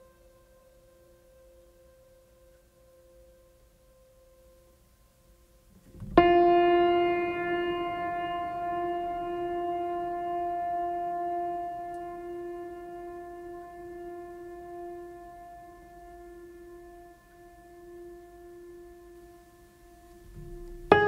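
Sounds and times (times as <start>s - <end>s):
soft background music tones: 0.0s - 21.0s.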